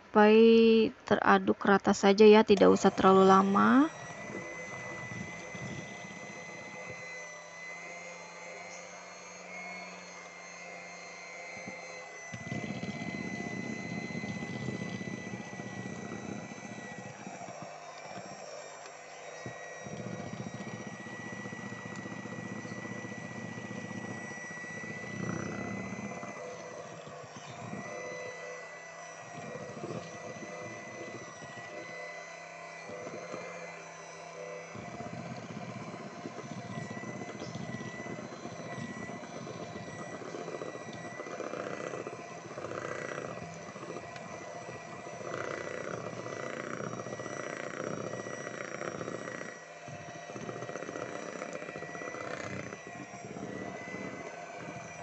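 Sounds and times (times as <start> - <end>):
electric hand mixer whining: 0.0 - 55.0
beaters churning batter in bowl: 1.6 - 55.0.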